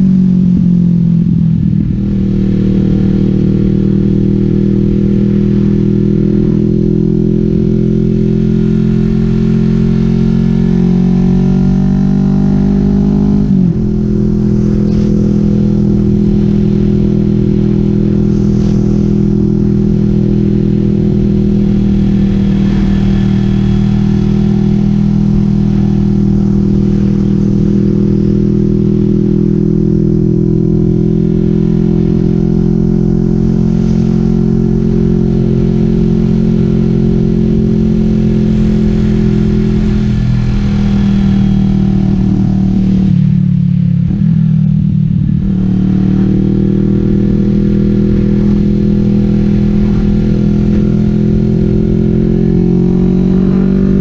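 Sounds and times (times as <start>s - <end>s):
motorcycle engine exhaust note: 0.0s - 54.0s.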